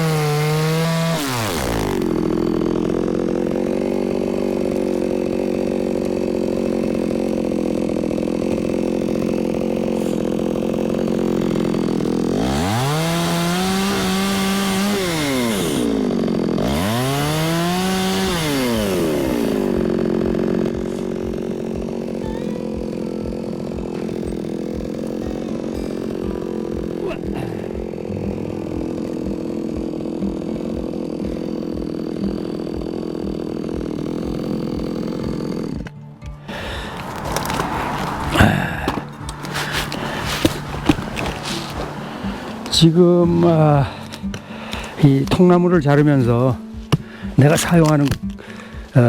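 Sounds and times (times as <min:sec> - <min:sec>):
chainsaw cutting logs: 0:00.0 - 0:49.0.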